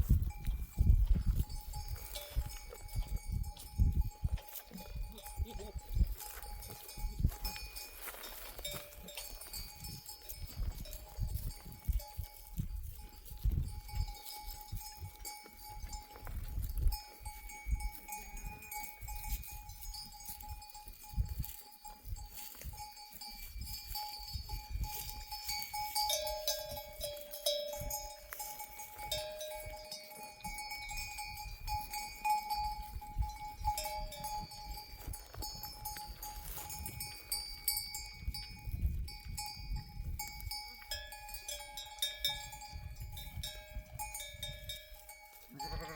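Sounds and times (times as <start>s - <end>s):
sheep bells clanking: 0.0s - 45.9s.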